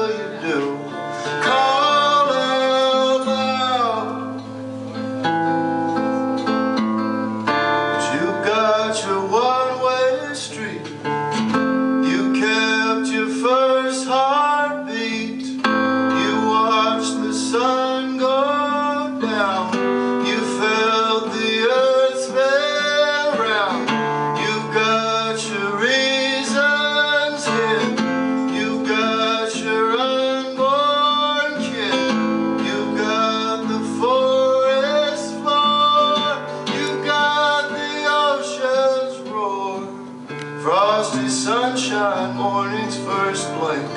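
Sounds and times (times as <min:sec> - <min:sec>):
man singing: 0:00.0 - 0:04.5, 0:07.8 - 0:11.1, 0:11.9 - 0:43.9
acoustic guitar strumming: 0:00.0 - 0:43.9.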